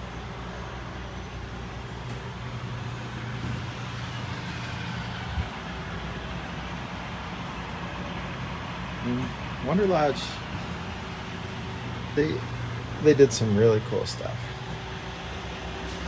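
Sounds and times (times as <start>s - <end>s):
bus engine hum: 0.0s - 16.0s.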